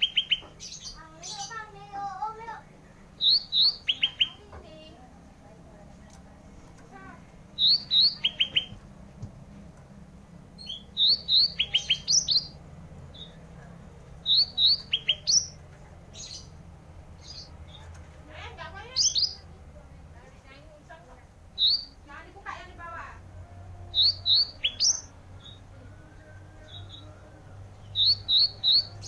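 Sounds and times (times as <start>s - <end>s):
songbird singing: 0.0s - 29.0s
steady low hum: 0.0s - 29.0s.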